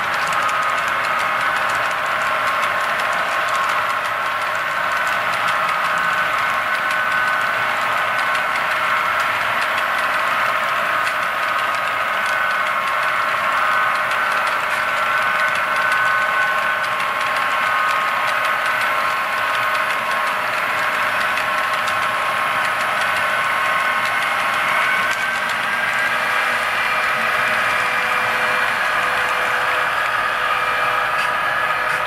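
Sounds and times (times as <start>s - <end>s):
diesel engine drone: 0.0s - 32.0s
model train wheels rolling on track: 0.0s - 32.0s.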